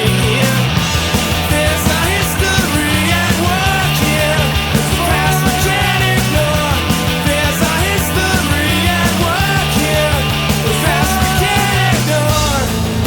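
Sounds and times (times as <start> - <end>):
bass and drums: 0.0 - 13.0
distorted electric guitars: 0.0 - 13.0.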